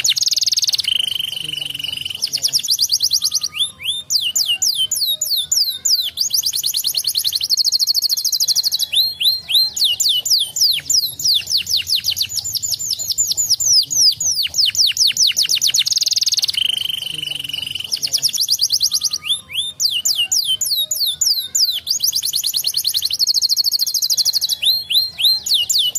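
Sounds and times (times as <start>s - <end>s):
canary singing: 0.0s - 25.9s.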